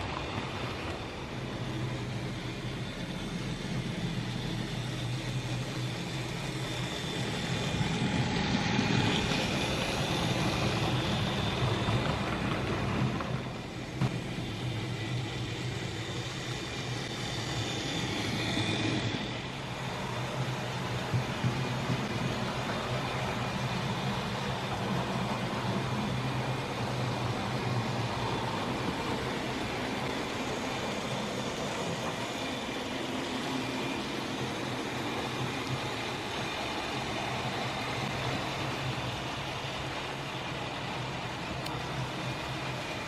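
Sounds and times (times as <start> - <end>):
model train motor humming: 0.0 - 43.0
wheels rumbling on rails: 0.0 - 43.0.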